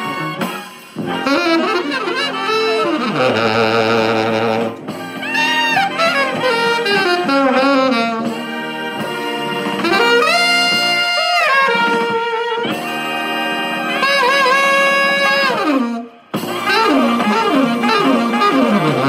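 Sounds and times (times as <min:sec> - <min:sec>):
tenor saxophone playing jazz: 0:00.0 - 0:19.0.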